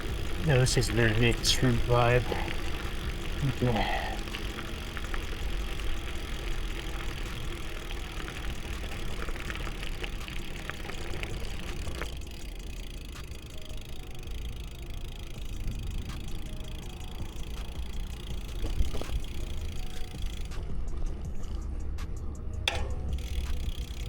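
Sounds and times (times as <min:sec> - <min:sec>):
faint clicks: 0:00.0 - 0:20.7
bicycle rolling noise: 0:00.0 - 0:24.0.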